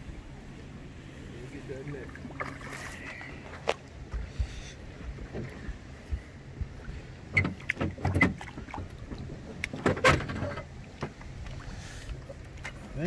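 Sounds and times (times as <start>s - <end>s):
knocks and clunks in a boat: 1.7s - 13.0s.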